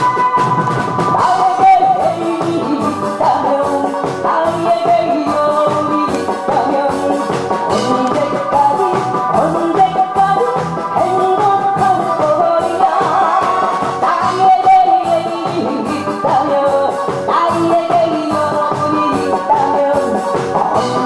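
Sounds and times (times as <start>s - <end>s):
backing music with steady beat: 0.0s - 21.0s
person singing into microphone: 0.0s - 21.0s.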